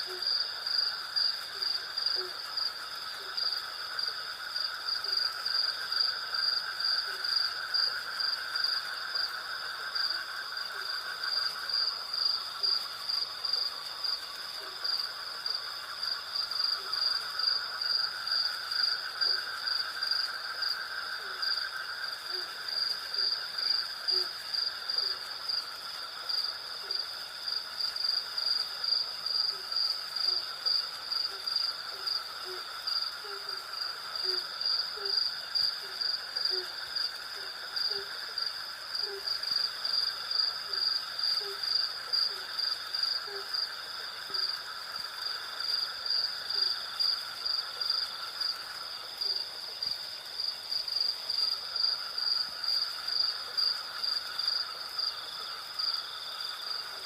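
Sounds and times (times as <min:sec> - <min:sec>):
crickets chirping: 0:00.0 - 0:57.0
low insect buzz: 0:00.0 - 0:57.0.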